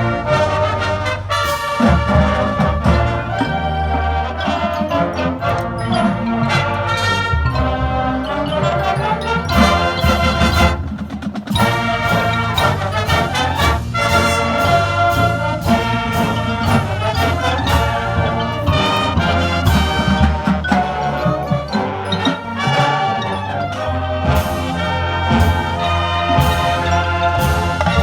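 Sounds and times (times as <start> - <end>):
percussion hits: 0.0 - 28.0
wind band playing: 0.0 - 28.0.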